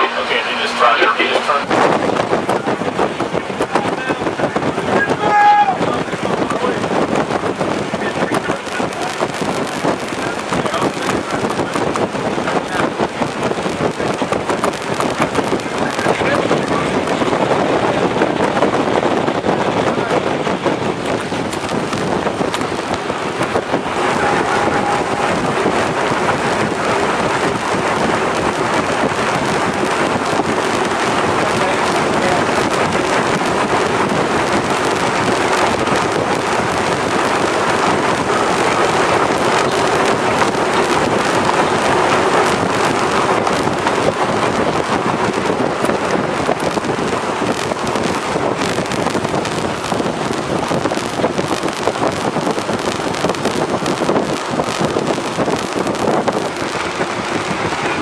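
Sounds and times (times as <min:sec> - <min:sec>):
ship engines: 0:00.0 - 0:58.0
water rushing: 0:00.0 - 0:58.0
wind on microphone: 0:00.0 - 0:58.0.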